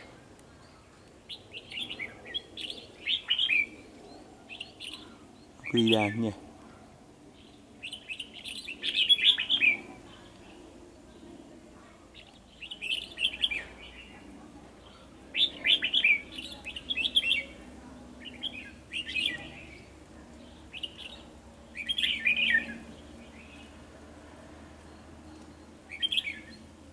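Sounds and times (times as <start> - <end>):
bulbuls singing chirpy phrases: 0.0 - 23.9, 24.8 - 26.9.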